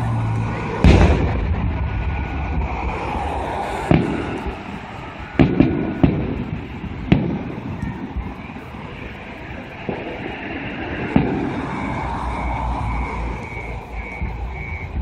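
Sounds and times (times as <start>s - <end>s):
steady background rumble: 0.0s - 15.0s
firework shells bursting: 0.8s - 15.0s.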